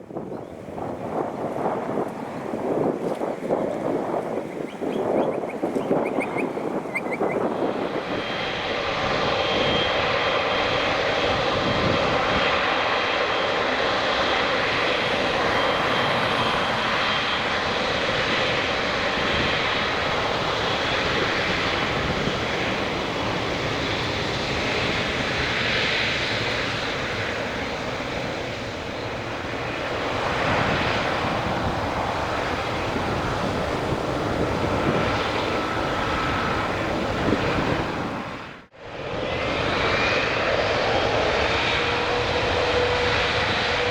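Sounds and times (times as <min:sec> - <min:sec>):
jet engine roar: 0:00.0 - 0:43.9.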